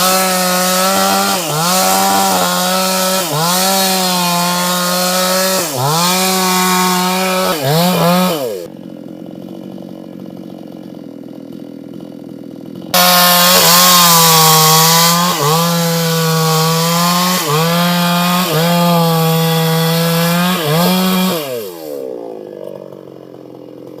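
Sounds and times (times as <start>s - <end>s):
chainsaw cutting tree trunk: 0.0s - 24.0s.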